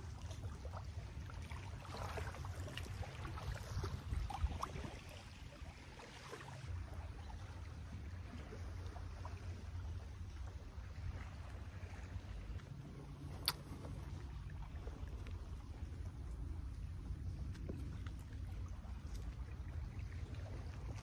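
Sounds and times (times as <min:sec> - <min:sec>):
small waves lapping on shore: 0:00.0 - 0:21.0
wind rumbling on microphone: 0:00.0 - 0:21.0.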